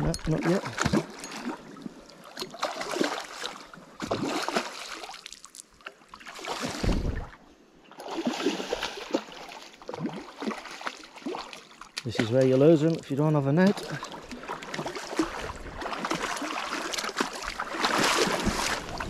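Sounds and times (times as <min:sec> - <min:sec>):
stream flowing: 0:00.0 - 0:19.0
fish thrashing and splashing: 0:00.4 - 0:05.5, 0:08.0 - 0:13.0, 0:13.7 - 0:19.0.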